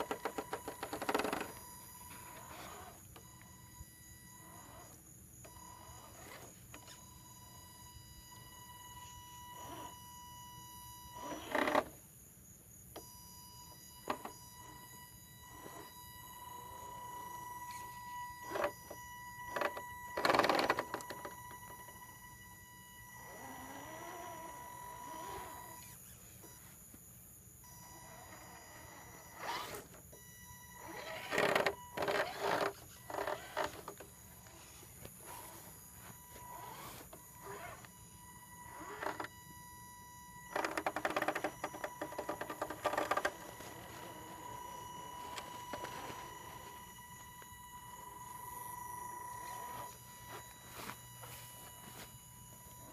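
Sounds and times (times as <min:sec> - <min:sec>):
electric motor whining: 0:00.0 - 0:07.0, 0:08.6 - 0:12.0, 0:14.0 - 0:26.6, 0:27.7 - 0:52.9.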